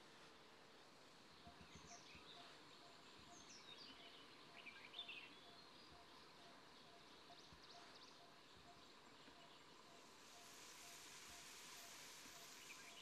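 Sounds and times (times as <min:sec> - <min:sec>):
soft hiss: 0:00.0 - 0:13.0
bird chirps: 0:01.4 - 0:13.0.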